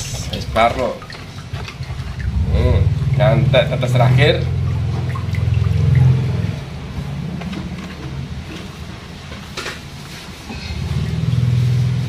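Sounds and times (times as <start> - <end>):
low engine hum: 0.0 - 9.6, 10.5 - 12.0.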